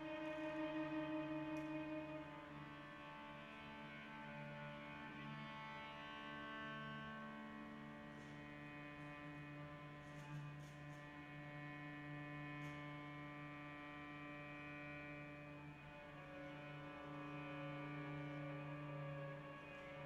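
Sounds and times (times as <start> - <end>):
soft cello drone: 0.0 - 20.0.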